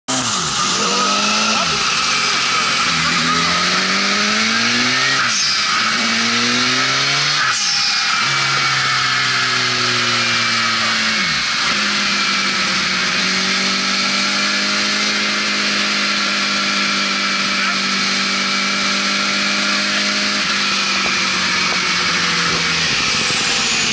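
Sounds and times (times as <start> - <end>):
high turbo whine: 0.1 - 23.9
motorcycle engine revving: 0.1 - 23.9.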